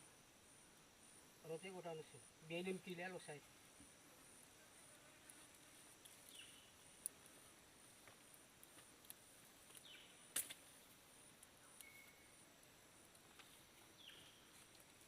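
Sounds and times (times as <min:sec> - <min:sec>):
insect trill: 0:00.0 - 0:15.0.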